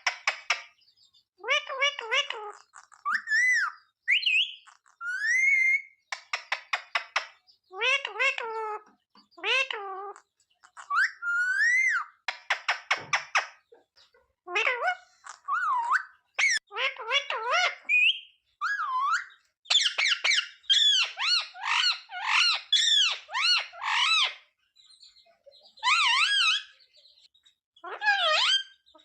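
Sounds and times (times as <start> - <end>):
parakeet calling and chattering: 0.0 - 29.0.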